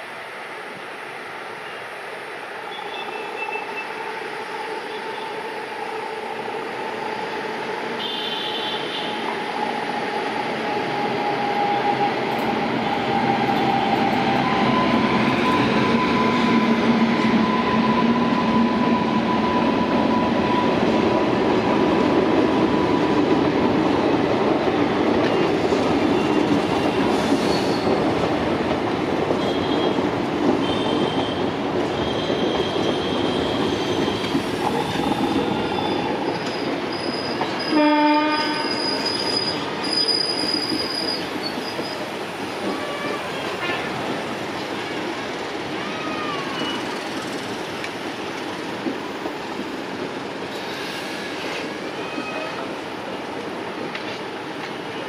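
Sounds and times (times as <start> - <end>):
train wheels clattering on rails: 10.7 - 55.0.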